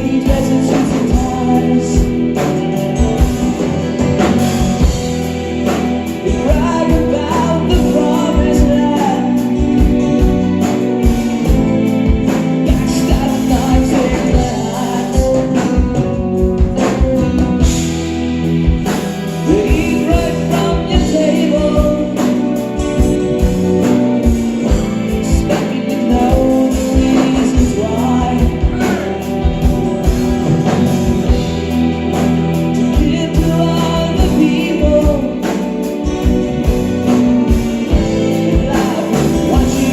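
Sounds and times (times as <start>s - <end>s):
drums keeping a steady beat: 0.0s - 39.9s
person singing: 0.0s - 39.9s
rock band playing live: 0.0s - 39.9s.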